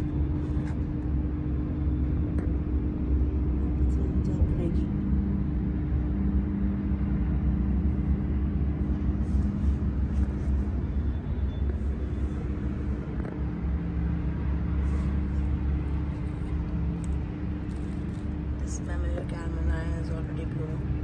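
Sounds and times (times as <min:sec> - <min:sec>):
low mechanical rumble and hum: 0:00.0 - 0:21.0.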